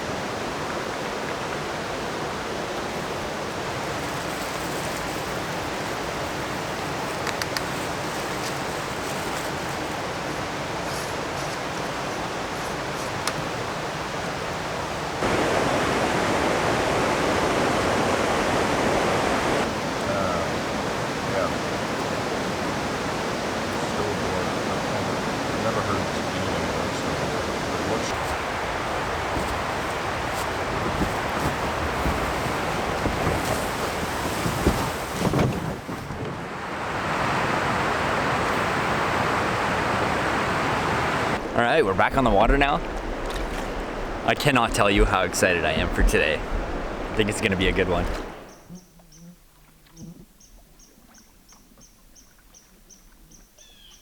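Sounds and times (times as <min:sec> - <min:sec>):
river rapids rushing: 0:00.0 - 0:48.5.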